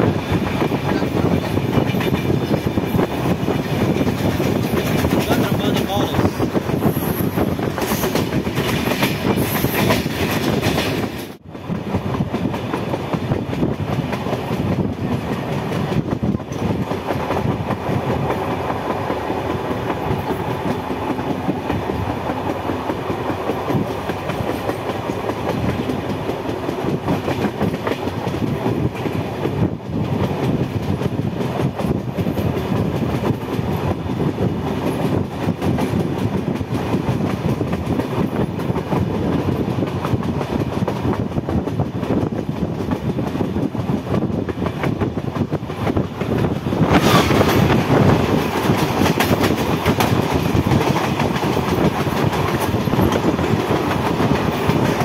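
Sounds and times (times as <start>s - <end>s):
rushing air: 0.0s - 55.0s
train wheels rumbling and rattling: 0.0s - 55.0s.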